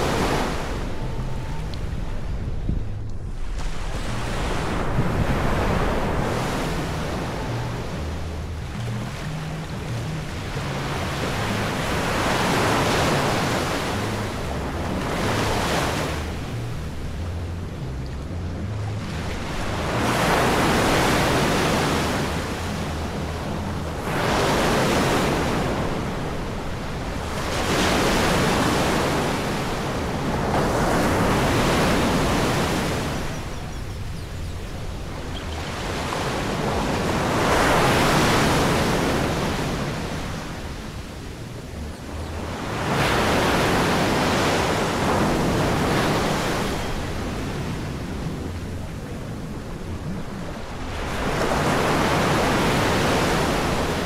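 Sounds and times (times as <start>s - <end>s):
ocean waves breaking on beach: 0.0s - 2.6s, 3.2s - 54.0s.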